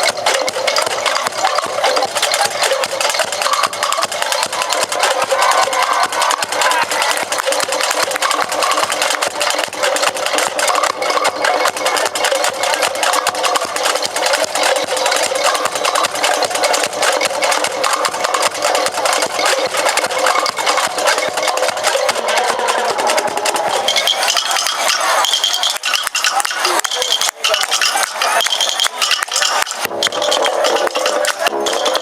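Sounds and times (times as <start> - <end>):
fast clattering percussion: 0.0 - 32.0.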